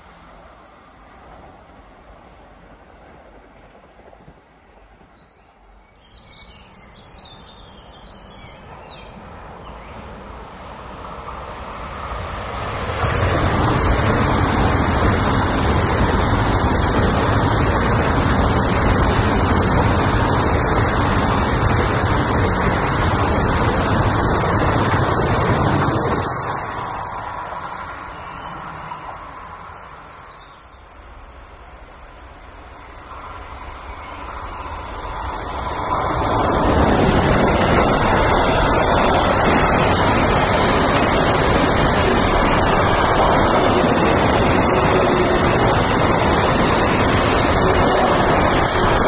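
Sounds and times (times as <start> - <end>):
train wheels rushing on rails: 8.1 - 30.3, 30.9 - 49.0.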